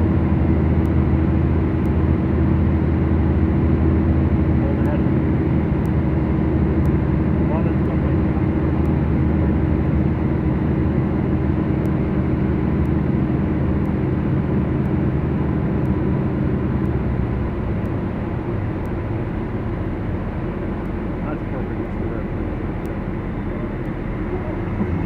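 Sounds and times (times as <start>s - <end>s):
piston aircraft engines droning: 0.0s - 25.0s.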